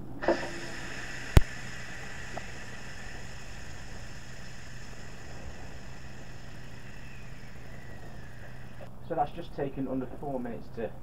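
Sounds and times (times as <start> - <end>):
steam hissing from valve: 0.0 - 8.9.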